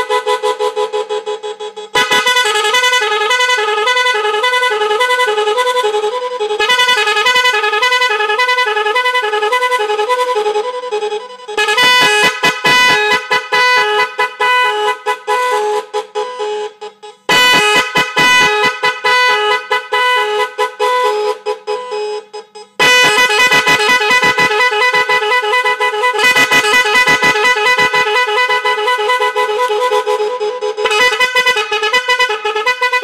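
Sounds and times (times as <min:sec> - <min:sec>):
multi-tone car horn melody: 0:00.0 - 0:33.0.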